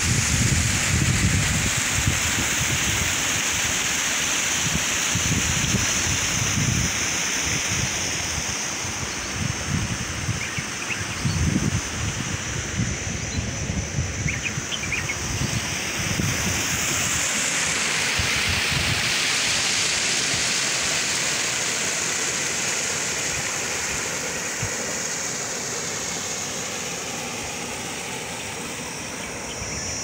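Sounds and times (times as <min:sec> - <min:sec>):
steady rushing outdoor noise: 0:00.0 - 0:30.0.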